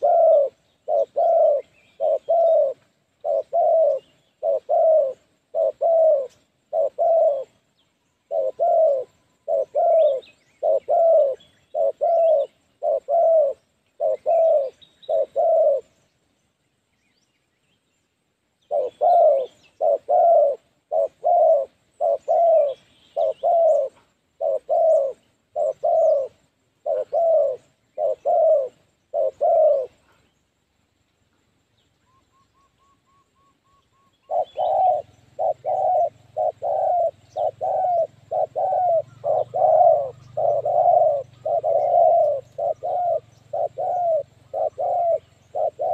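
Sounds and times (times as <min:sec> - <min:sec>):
dove cooing: 0:00.0 - 0:16.0, 0:18.6 - 0:30.3, 0:32.8 - 0:45.9.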